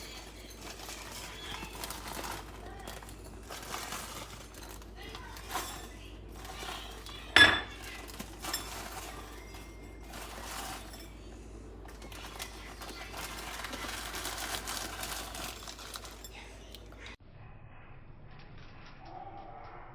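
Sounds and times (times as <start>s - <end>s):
steady rustling: 0.0s - 17.0s
utensils clinking on metal pot: 0.0s - 17.2s.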